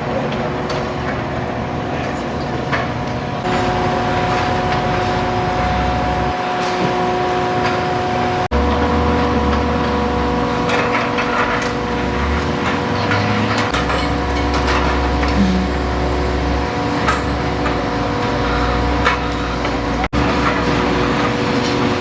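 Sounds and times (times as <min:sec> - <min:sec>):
machine hum with tones: 0:00.0 - 0:22.0.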